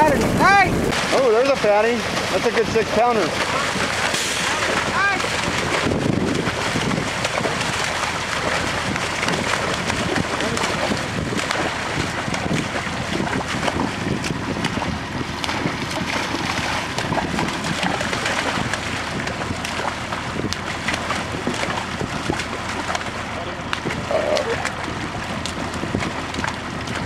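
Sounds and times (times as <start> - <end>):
fish splashing: 0.0 - 27.0
water gushing and splashing: 0.0 - 27.0.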